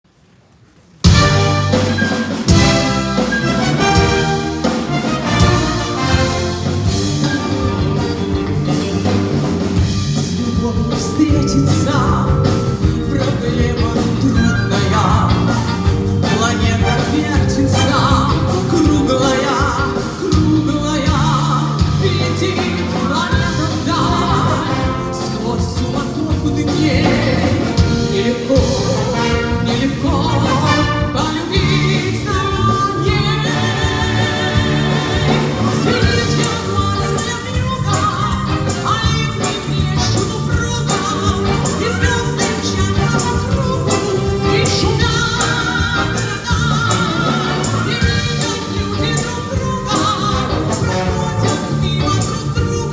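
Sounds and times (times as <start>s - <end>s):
brass band playing: 1.0s - 52.9s
woman singing: 10.2s - 52.9s.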